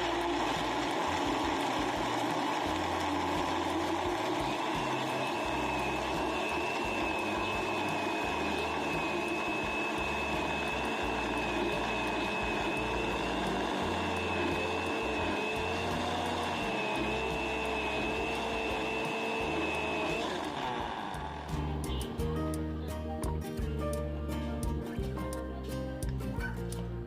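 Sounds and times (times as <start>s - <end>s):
electric blender running: 0.0s - 22.2s.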